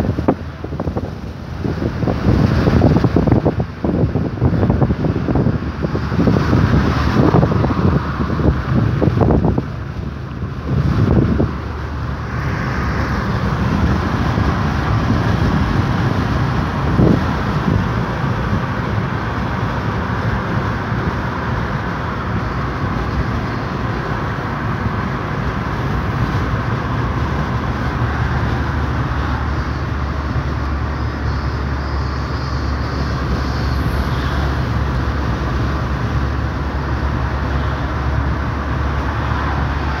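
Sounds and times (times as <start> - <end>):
car cabin road and engine noise: 0.0 - 40.0.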